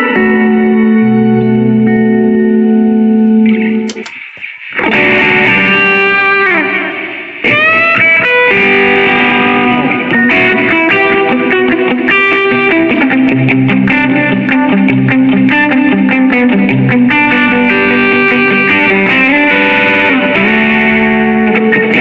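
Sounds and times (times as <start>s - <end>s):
electric guitar chords: 0.0s - 22.0s.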